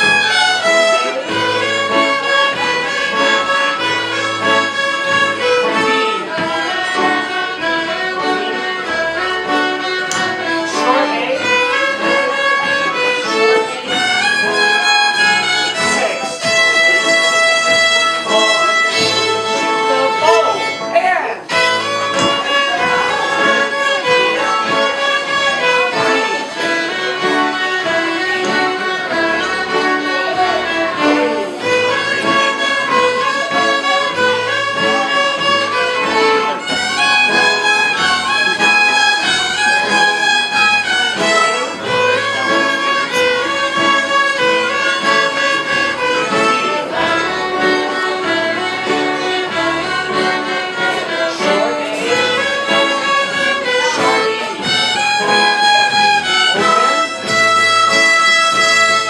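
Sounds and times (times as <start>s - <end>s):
fiddles playing together: 0.0s - 59.0s.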